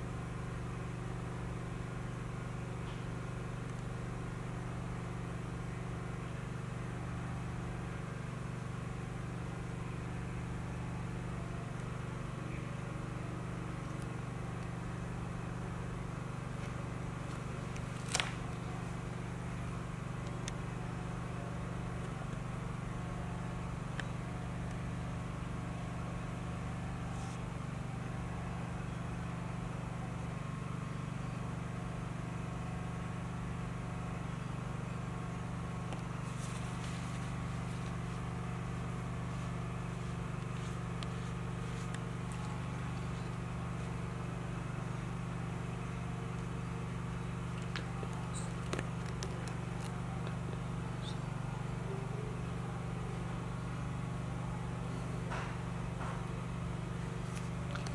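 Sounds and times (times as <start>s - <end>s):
low machine hum: 0.0s - 57.9s.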